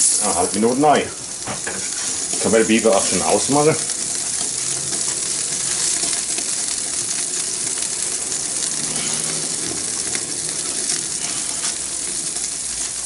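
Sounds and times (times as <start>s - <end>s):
fat crackling and popping: 0.0s - 13.0s
meat sizzling under gas burner: 0.0s - 13.0s.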